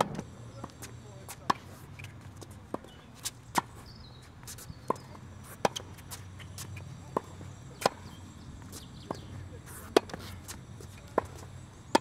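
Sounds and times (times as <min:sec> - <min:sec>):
racket hitting tennis ball: 0:00.0 - 0:03.8, 0:04.9 - 0:08.1, 0:08.8 - 0:12.0.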